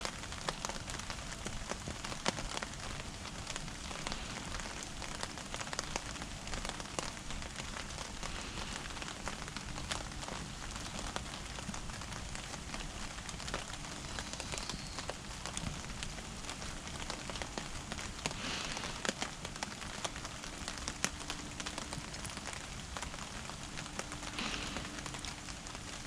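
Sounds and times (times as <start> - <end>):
wood fire crackling and popping: 0.0 - 26.0
fire hiss: 0.1 - 26.0.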